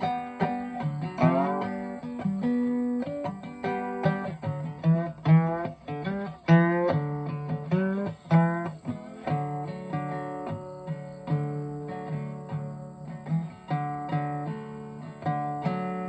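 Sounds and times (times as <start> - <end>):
acoustic guitar picking a melody: 0.0 - 16.0.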